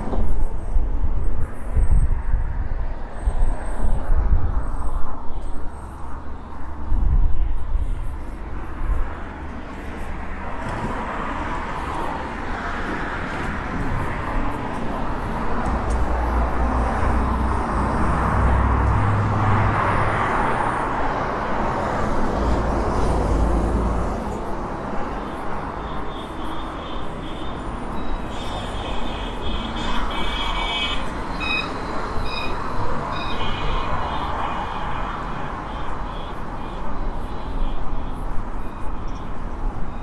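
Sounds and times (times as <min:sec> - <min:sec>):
cars passing on street: 0:00.0 - 0:40.0.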